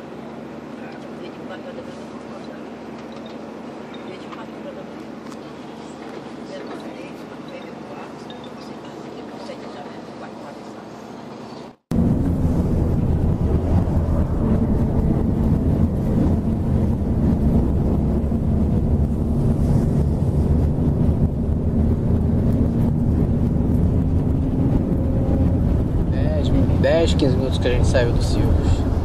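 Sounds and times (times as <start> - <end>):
coach diesel engine drone: 0.0 - 29.0
road and wind noise: 0.0 - 29.0.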